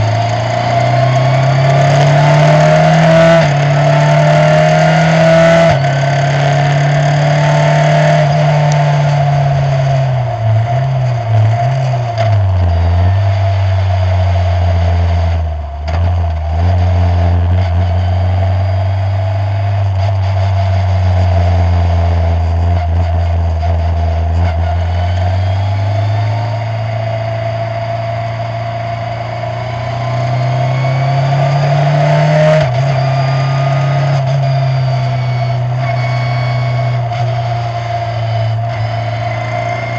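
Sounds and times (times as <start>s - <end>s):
race car engine: 0.0s - 39.9s
steady high whine: 0.0s - 39.9s.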